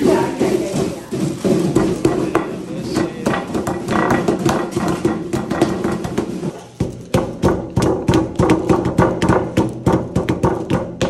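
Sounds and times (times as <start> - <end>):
rolling pin thudding on butter: 0.0 - 11.0.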